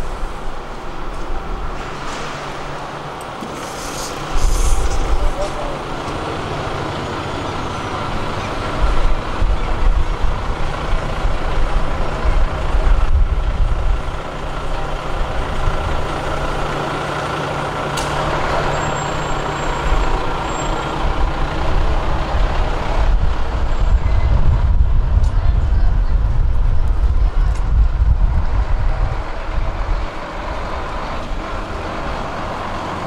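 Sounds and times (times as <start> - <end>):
large vehicle engine running: 0.0 - 33.0
traffic noise: 0.0 - 33.0.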